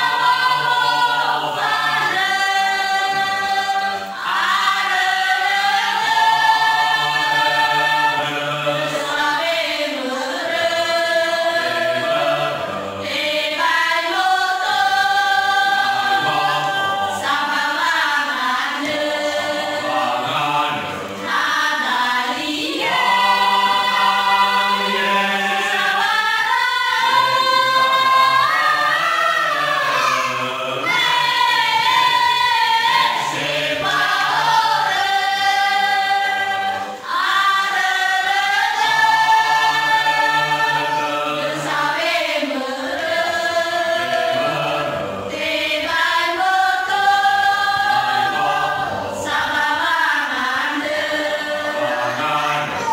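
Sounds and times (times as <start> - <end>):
choir singing a hymn: 0.0 - 52.9.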